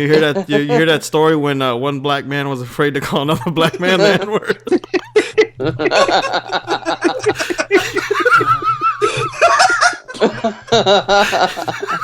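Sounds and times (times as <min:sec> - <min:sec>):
men laughing: 0:00.0 - 0:00.9, 0:03.0 - 0:12.0.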